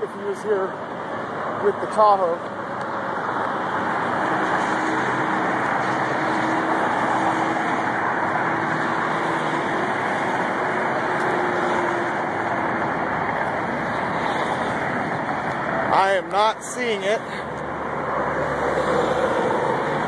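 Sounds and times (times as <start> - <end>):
freeway traffic rushing past: 0.0 - 20.0.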